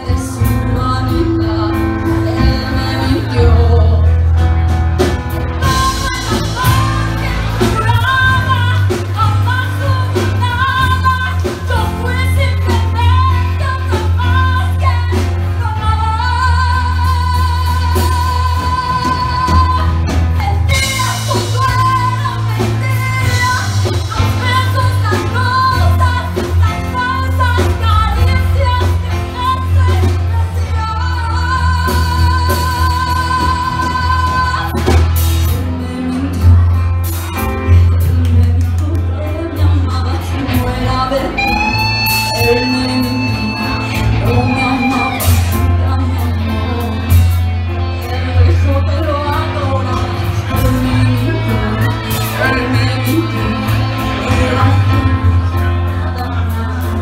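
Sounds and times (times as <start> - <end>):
live band playing: 0.0 - 57.0
woman singing lead: 0.0 - 57.0.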